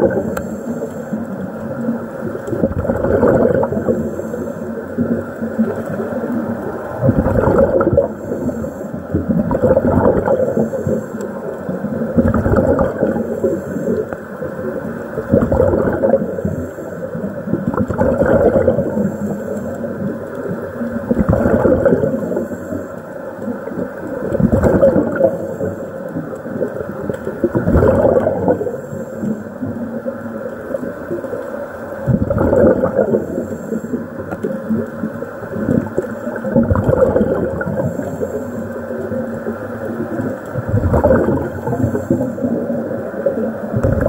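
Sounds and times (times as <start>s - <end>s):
underwater bubbles gurgling: 0.0s - 44.0s.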